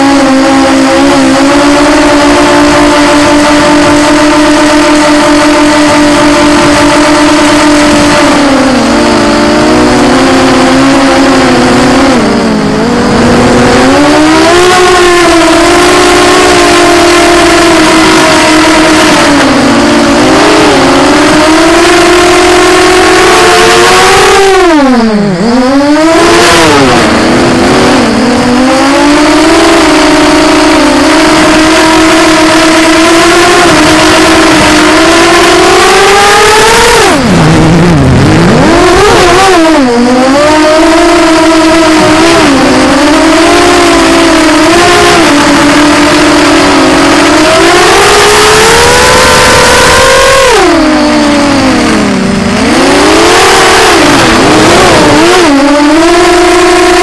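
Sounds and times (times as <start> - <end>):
model aircraft motors whining: 0.0 - 57.0.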